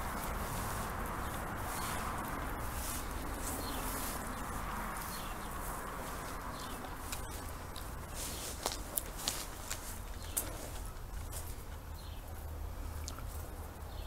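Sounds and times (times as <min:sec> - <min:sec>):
footsteps over debris: 0:00.0 - 0:11.6
outdoor background noise: 0:00.0 - 0:14.0.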